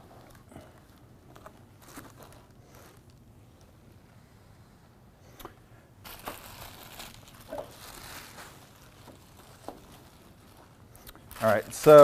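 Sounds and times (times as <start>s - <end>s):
plastic wrapping crinkling: 0.0s - 3.7s, 6.0s - 12.0s.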